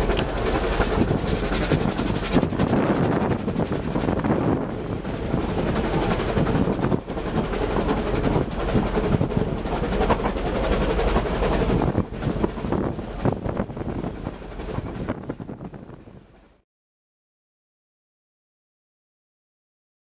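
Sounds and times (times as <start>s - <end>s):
wind on microphone: 0.0s - 16.4s
steam train rumbling and rattling: 0.0s - 16.6s.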